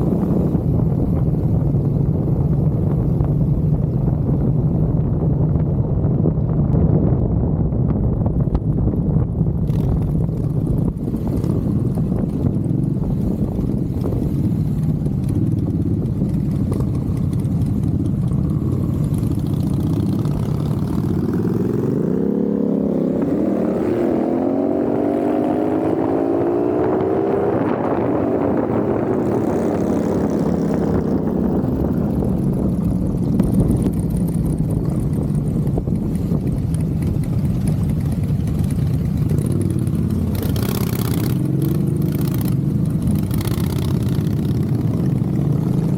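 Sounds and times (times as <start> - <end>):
motorcycle engine running: 0.0 - 45.9
wind rush: 0.0 - 45.9.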